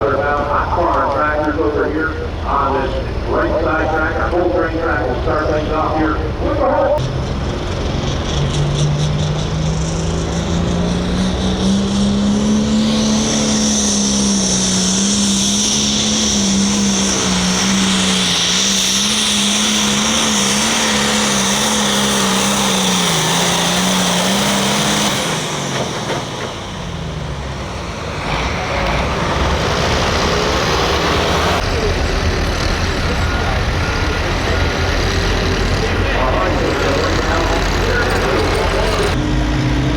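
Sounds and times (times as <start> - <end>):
rough low engine noise: 0.0 - 39.9
tractor engine at high revs: 0.0 - 39.9.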